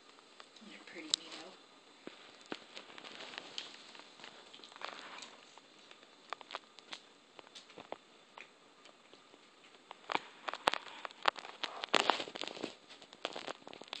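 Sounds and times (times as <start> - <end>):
light clicks and crackles: 0.0 - 14.0.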